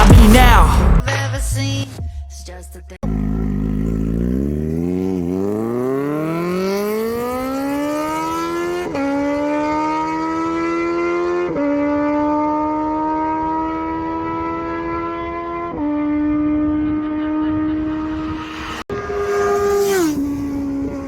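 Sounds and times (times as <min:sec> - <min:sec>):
motorcycle engine accelerating: 0:03.0 - 0:21.0.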